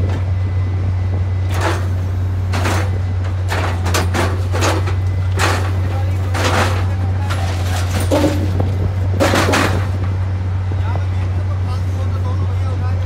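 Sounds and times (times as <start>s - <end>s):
machine engine drone: 0.0s - 13.0s.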